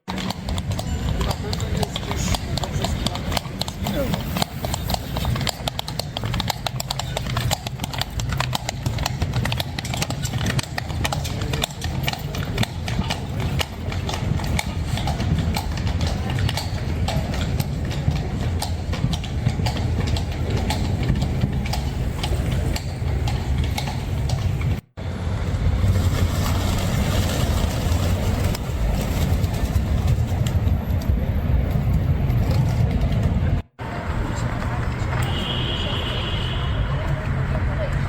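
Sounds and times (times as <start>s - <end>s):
street noise: 0.0s - 38.0s
horse hooves clip-clopping: 0.1s - 36.0s.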